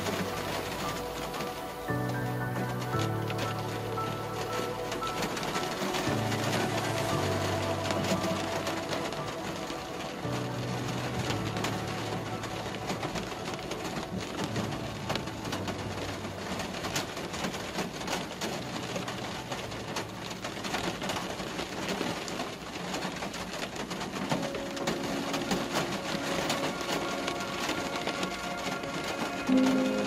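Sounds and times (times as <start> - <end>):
rain striking a car: 0.0 - 30.0.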